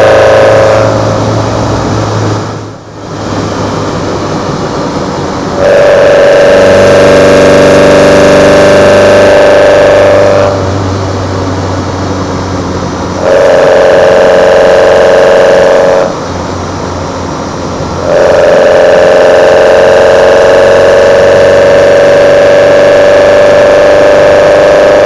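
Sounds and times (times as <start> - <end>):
engine carburetor intake roar: 0.0 - 25.0.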